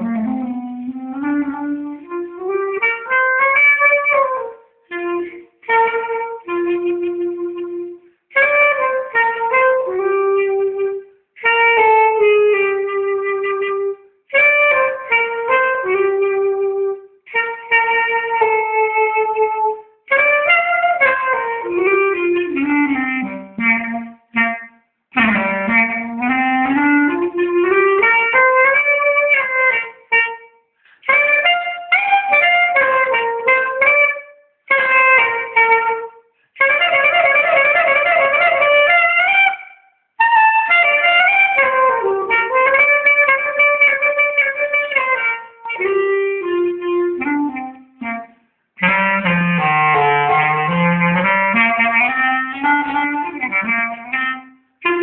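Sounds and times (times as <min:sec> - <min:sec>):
solo clarinet playing: 0:00.0 - 0:55.0.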